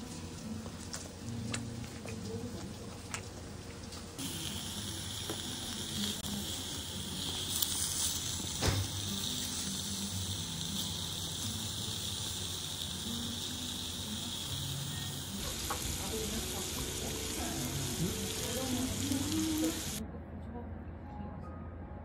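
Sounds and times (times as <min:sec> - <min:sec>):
beef sizzling on grill: 0:00.0 - 0:20.0.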